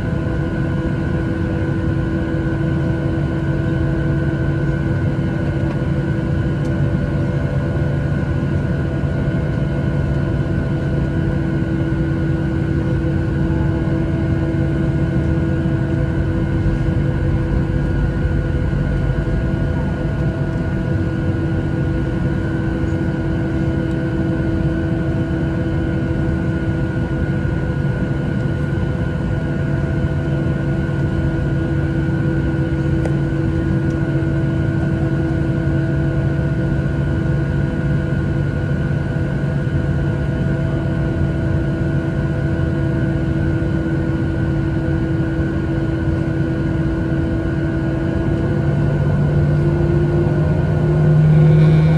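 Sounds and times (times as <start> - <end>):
airplane cabin drone: 0.0 - 51.9.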